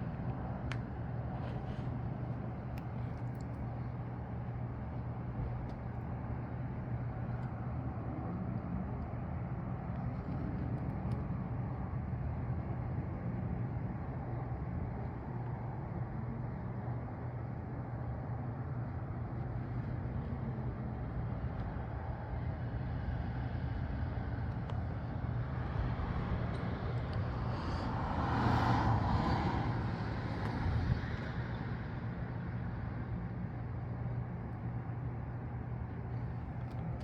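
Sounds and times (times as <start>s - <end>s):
outdoor background hum: 0.0s - 37.0s.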